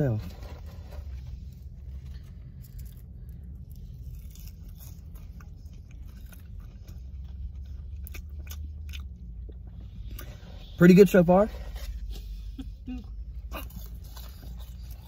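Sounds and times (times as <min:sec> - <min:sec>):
steady low hum: 0:00.0 - 0:15.0
man chewing crunchy fries: 0:00.1 - 0:15.0.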